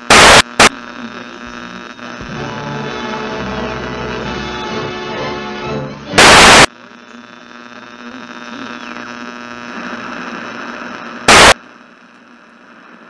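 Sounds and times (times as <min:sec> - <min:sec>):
radio static: 0:00.0 - 0:13.0
steady hum: 0:00.0 - 0:13.0.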